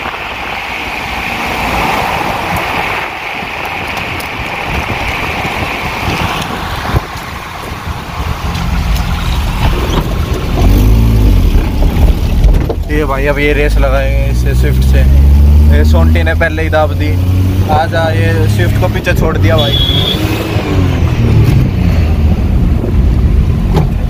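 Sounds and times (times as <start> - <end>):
low engine rumble: 0.0 - 24.0
road and wind noise: 0.0 - 24.0.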